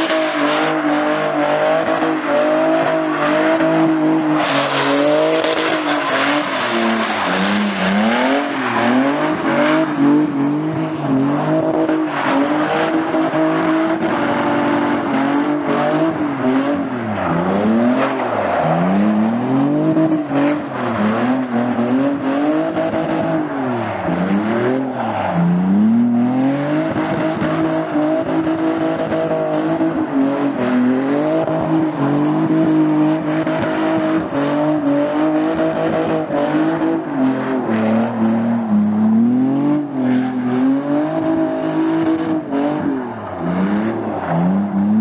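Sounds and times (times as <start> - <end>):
car engine at high revs: 0.0 - 45.0.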